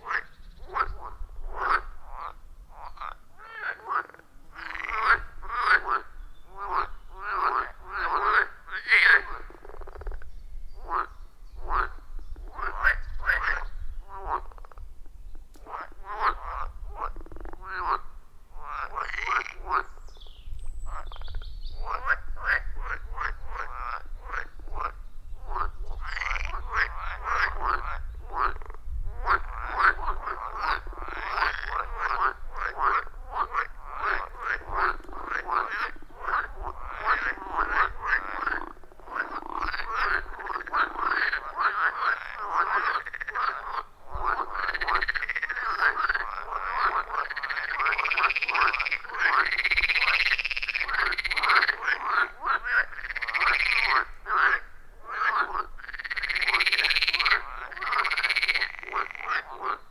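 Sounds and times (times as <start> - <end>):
chorus of frogs croaking: 0.0 - 14.9, 15.6 - 20.2, 20.9 - 59.9.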